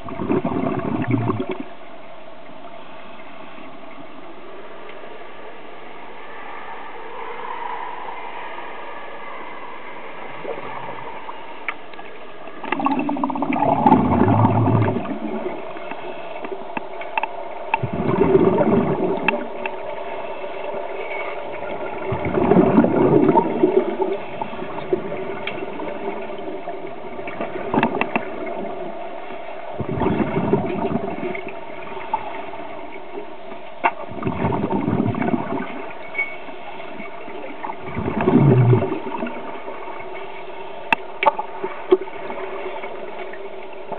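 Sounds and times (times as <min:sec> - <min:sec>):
underwater exhaust bubbles: 0:00.0 - 0:02.6, 0:10.1 - 0:43.9
steady hum: 0:00.0 - 0:43.9.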